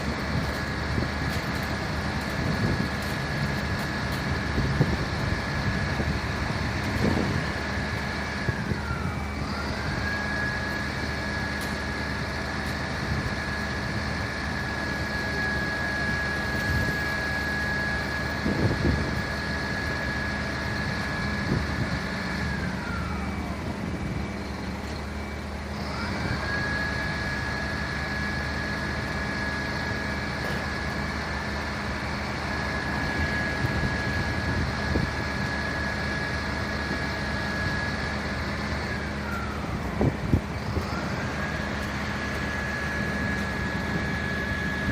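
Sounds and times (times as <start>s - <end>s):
fire engine siren wailing: 0.0s - 44.9s
truck engine idling: 0.0s - 44.9s.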